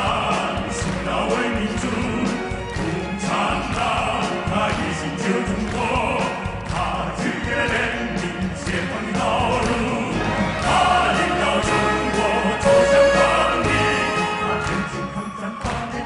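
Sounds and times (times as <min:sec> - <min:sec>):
men singing together: 0:00.0 - 0:16.0
orchestra with strings: 0:00.0 - 0:16.0.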